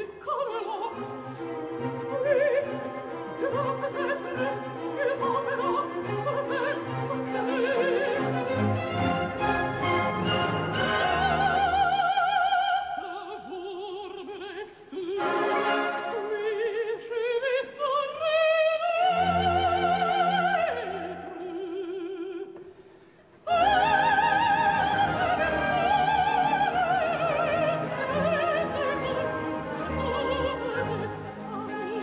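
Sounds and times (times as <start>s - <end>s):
woman singing opera: 0.0s - 8.6s, 10.8s - 22.7s, 23.4s - 32.0s
orchestra: 0.0s - 22.1s, 23.4s - 32.0s.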